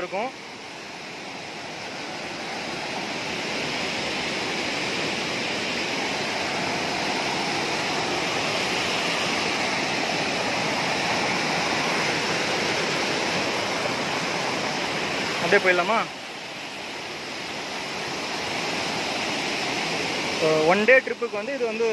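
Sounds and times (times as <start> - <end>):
waterfall rushing over boulders: 0.0 - 21.9.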